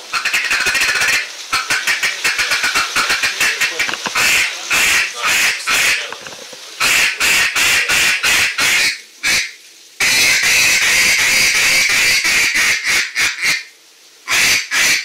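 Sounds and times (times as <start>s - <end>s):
duck call quacking: 0.1s - 6.1s, 6.8s - 13.7s, 14.3s - 15.0s.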